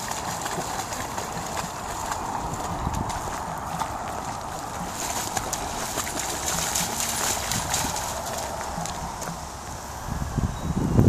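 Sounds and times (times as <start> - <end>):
paws splashing in water: 0.0 - 9.8
moving water: 0.0 - 11.0.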